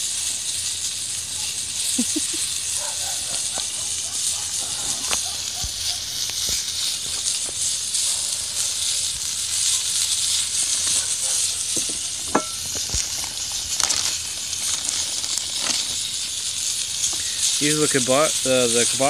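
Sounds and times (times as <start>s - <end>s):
fire crackling and popping: 0.0s - 19.0s
sausages sizzling in a skillet: 0.0s - 19.0s.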